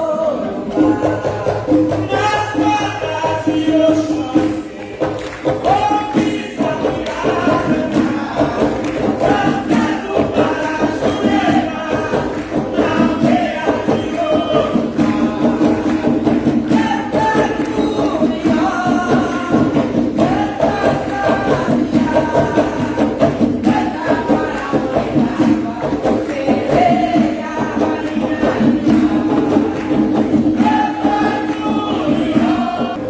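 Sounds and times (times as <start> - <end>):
voices singing in chorus: 0.0 - 33.0
steady drumming: 0.4 - 33.0.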